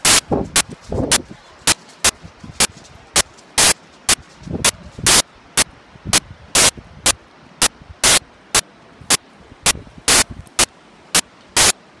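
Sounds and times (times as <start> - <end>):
harsh static crackle bursts: 0.0 - 12.0
low background hiss: 0.0 - 12.0.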